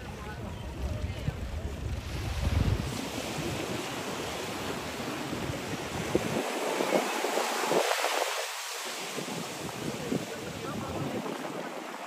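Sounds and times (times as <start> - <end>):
waves washing on beach: 0.0 - 12.0
wind buffeting microphone: 0.0 - 12.0.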